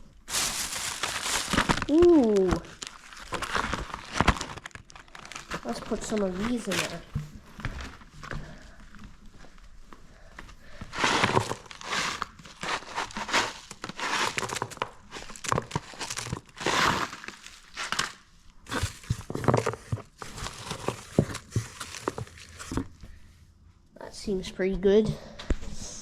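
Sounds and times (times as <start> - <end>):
material crinkling and rustling: 0.0 - 23.0.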